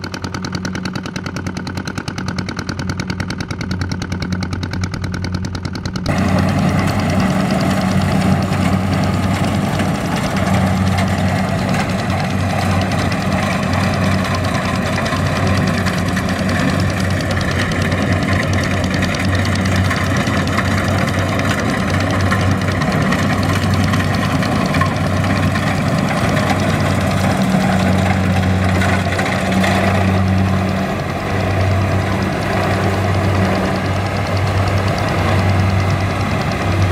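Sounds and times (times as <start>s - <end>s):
machinery working: 0.0s - 36.9s
tractor engine running: 0.0s - 36.9s.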